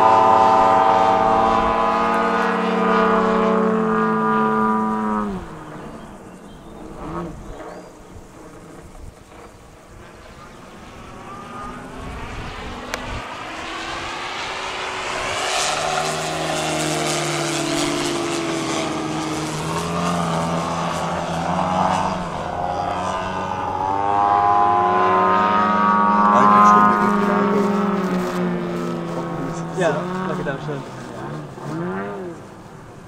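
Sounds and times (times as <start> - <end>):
model airplane engines droning: 0.0 - 33.0.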